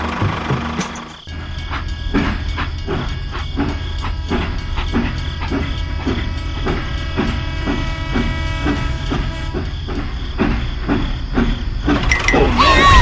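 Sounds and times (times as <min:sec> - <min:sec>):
toy locomotive chuffing: 0:00.0 - 0:13.0.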